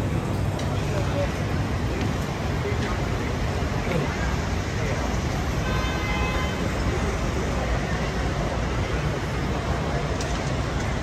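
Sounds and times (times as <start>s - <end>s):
passers-by talking: 0.0s - 11.0s
traffic rumble: 0.0s - 11.0s.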